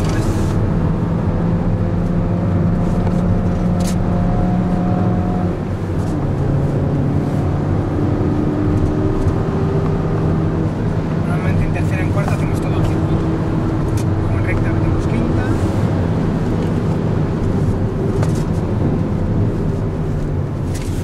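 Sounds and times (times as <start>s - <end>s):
car engine from inside cabin: 0.0s - 21.0s.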